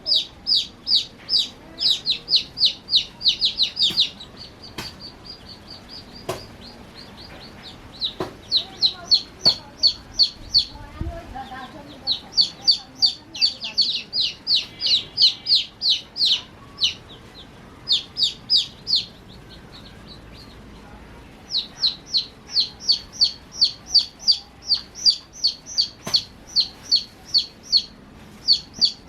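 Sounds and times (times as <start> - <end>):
baby chicks peeping: 0.0 - 29.0.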